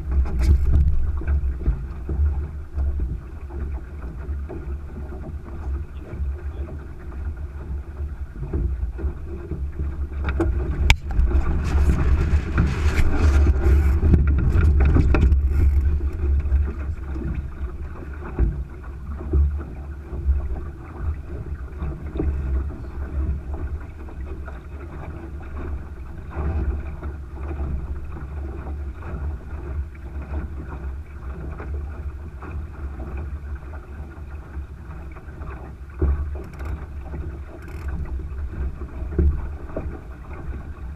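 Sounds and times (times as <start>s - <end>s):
water rushing along boat hull: 0.0s - 40.9s
wind buffeting microphone: 0.0s - 40.9s.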